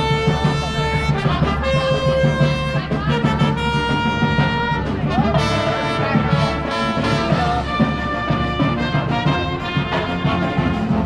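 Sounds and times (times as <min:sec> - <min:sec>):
brass marching band playing: 0:00.0 - 0:11.0.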